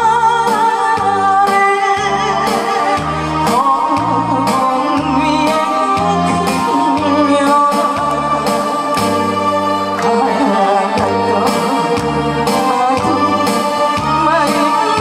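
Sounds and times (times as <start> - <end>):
backing music with beat: 0.0 - 15.0
woman singing into microphone: 0.0 - 15.0.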